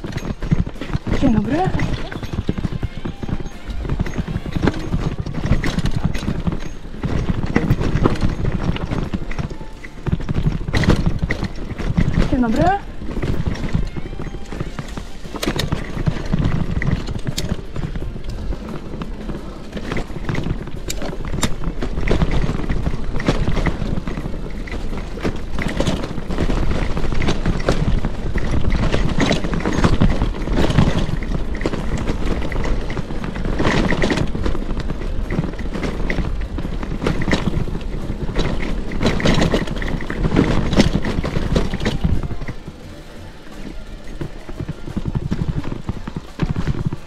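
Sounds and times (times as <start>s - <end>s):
bike clattering over stones: 0.0s - 47.0s
wind and tyre rumble: 0.0s - 47.0s.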